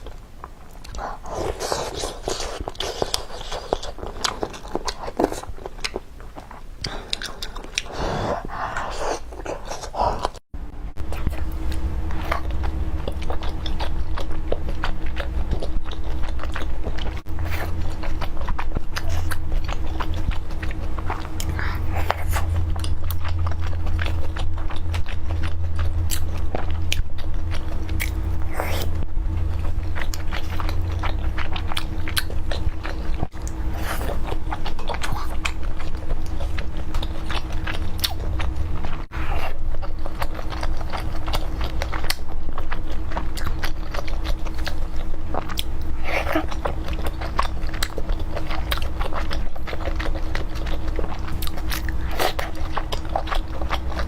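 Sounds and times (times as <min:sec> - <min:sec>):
chewing and biting food: 0:00.0 - 0:54.0
low electrical hum: 0:00.0 - 0:54.0.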